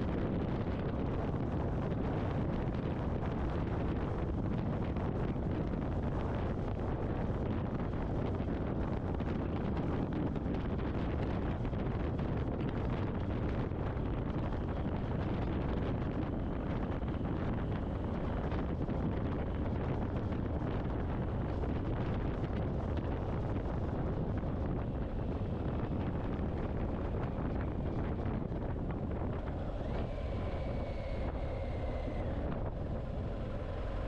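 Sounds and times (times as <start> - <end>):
motorcycle low rumble: 0.0 - 34.0
wind buffeting helmet microphone: 0.0 - 34.0.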